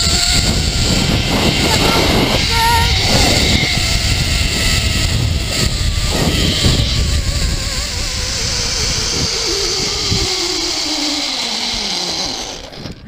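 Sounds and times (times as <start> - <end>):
wind buffeting microphone: 0.0 - 13.0
zipline pulleys whining on cable: 0.0 - 13.0.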